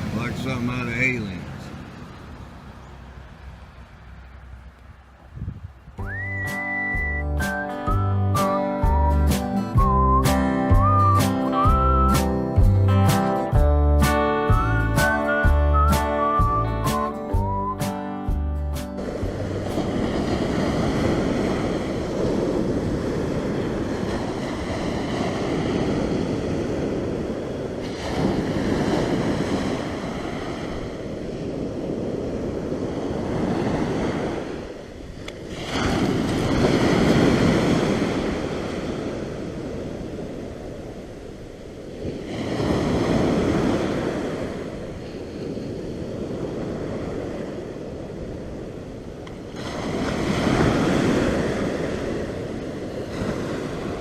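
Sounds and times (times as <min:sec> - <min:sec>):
wind buffeting microphone: 0:00.0 - 0:12.7, 0:19.0 - 0:54.0
ocean waves breaking: 0:00.0 - 0:54.0.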